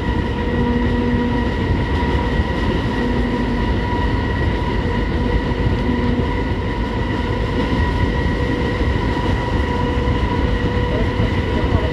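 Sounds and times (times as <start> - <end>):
locomotive low rumble: 0.0 - 11.9.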